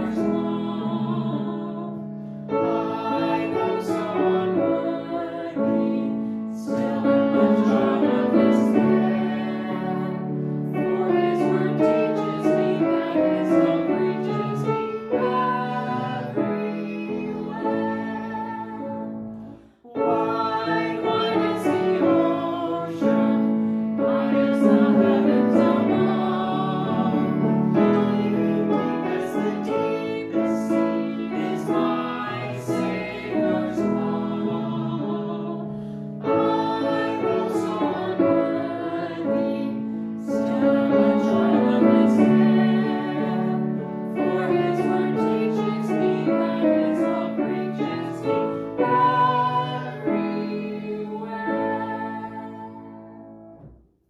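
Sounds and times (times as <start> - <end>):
man and woman singing a hymn: 0.0 - 53.0
grand piano accompaniment: 0.0 - 53.9.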